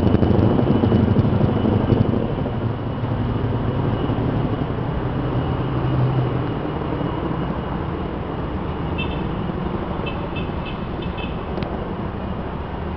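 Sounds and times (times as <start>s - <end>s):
city noise: 0.0s - 12.9s
distant helicopter rotors: 0.0s - 12.9s.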